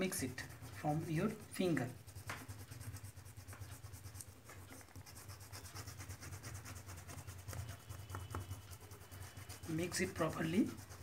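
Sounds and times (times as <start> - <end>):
fingertips rubbing on paper: 0.0 - 11.0.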